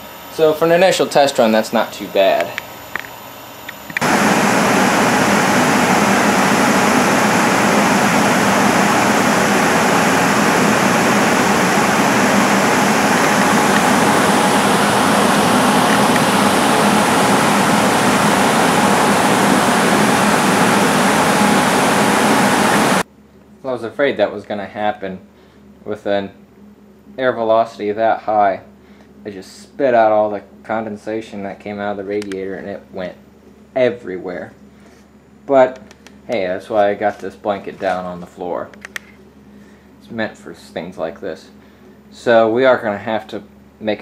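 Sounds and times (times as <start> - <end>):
fan blowing air: 0.0 - 44.0.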